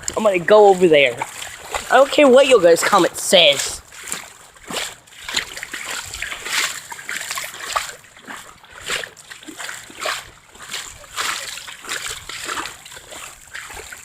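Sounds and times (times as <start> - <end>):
footsteps wading through water: 0.0 - 14.0.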